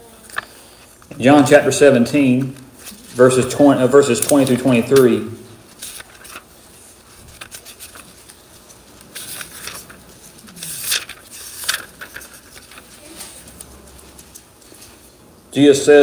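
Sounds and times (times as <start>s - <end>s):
paper pages rustling: 0.2s - 15.2s.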